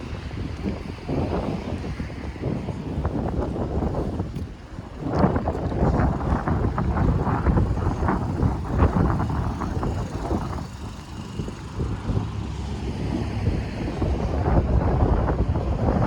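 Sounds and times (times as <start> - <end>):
street traffic going by: 0.0 - 16.0
wind gusting on microphone: 0.0 - 16.0.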